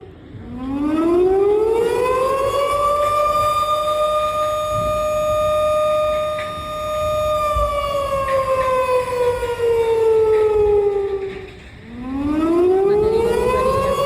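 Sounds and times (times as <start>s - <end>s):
tornado warning siren wailing: 0.0s - 14.0s.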